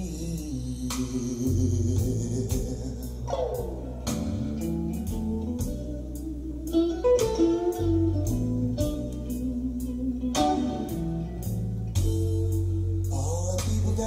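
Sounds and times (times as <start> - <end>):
guitar music with bass and percussion: 0.0 - 14.0.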